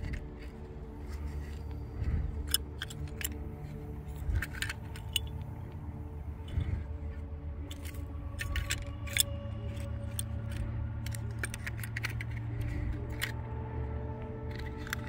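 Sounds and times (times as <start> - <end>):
metal and glass clicking: 0.0 - 6.9, 7.6 - 13.4, 14.4 - 15.0
steady low hum: 0.0 - 15.0.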